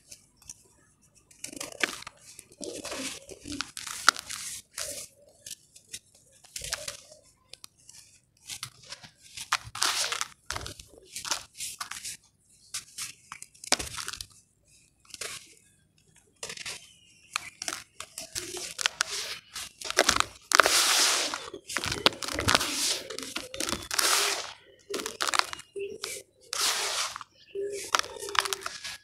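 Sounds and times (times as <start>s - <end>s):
hands crumbling dry ash: 1.4s - 7.2s, 8.4s - 14.3s, 16.4s - 29.0s.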